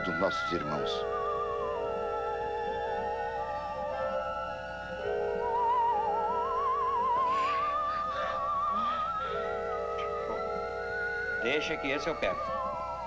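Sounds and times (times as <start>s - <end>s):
held chords: 0.0s - 13.0s
high wavering tone gliding upward: 0.0s - 13.0s.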